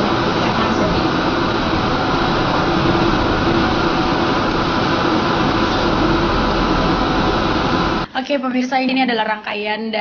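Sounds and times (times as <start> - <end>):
machine hum with hiss: 0.0 - 8.3.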